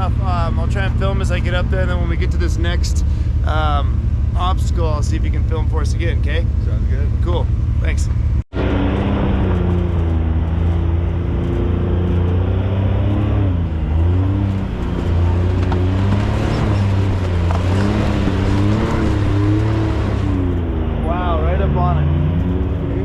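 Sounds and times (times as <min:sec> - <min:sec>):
utv engine revving: 0:00.0 - 0:23.0.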